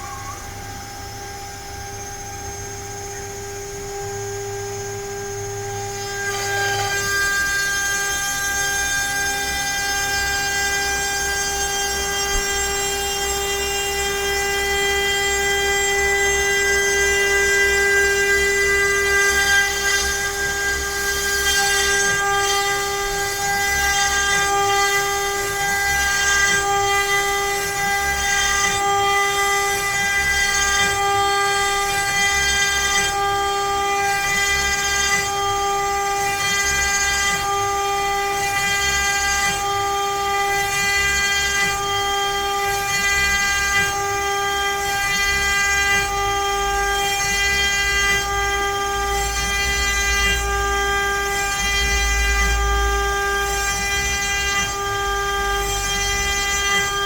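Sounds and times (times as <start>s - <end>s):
router spindle whining: 0.0s - 57.0s.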